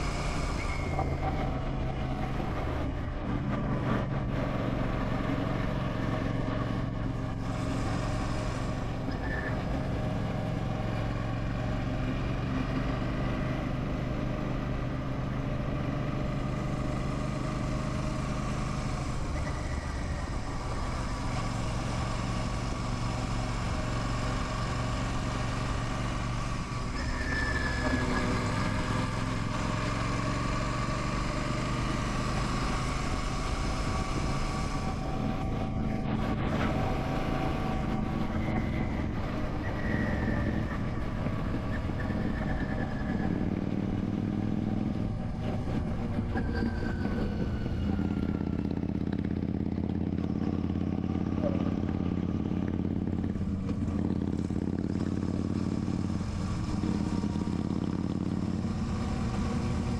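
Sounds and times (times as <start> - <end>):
motorcycle engine running: 9.7 - 59.9.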